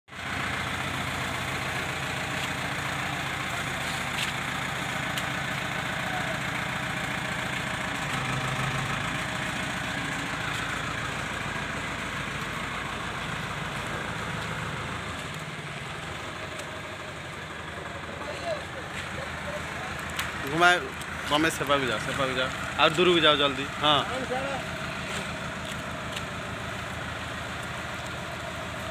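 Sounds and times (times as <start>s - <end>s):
diesel crane engine running: 0.1s - 28.9s.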